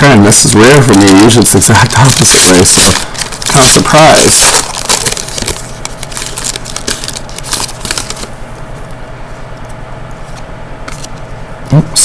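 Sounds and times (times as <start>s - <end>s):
trading cards being handled: 0.4s - 8.4s, 9.6s - 11.3s.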